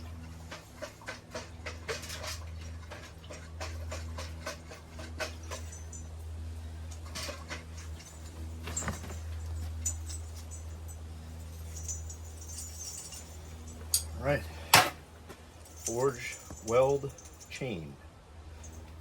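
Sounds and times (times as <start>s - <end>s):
small metallic clinks: 0.2s - 17.8s, 18.5s - 19.0s.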